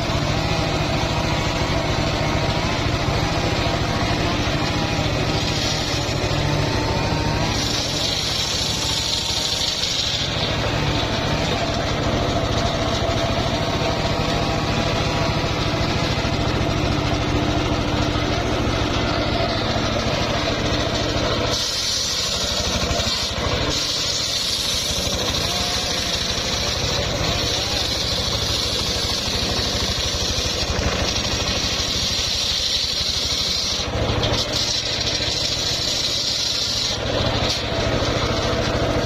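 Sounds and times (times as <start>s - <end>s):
sawmill engine running: 0.0s - 39.0s.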